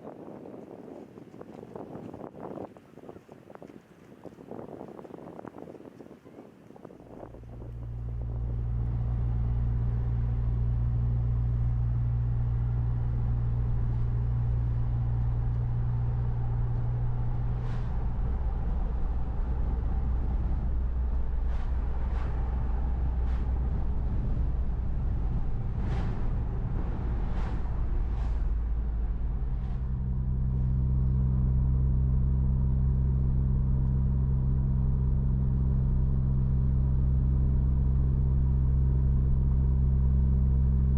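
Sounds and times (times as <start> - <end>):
road noise: 7.0 - 40.9
car engine droning: 7.1 - 40.9.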